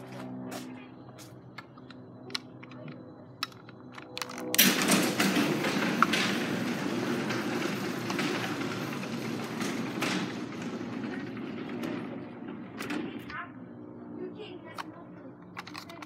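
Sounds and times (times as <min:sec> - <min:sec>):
garage door opener rumbling: 0:01.6 - 0:14.7.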